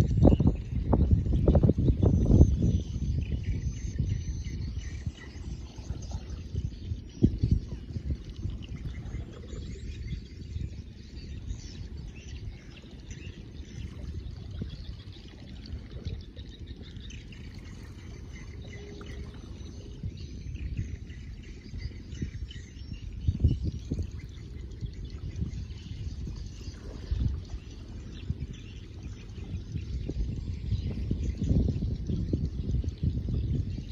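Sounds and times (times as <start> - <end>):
faint birds chirping: 0.0 - 33.9
wind buffeting microphone: 0.0 - 33.9.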